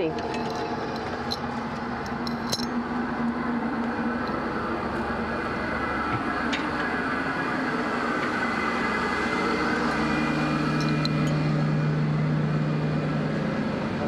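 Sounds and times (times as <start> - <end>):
low hum: 0.0 - 14.0
ventilation fans whirring: 0.0 - 14.0.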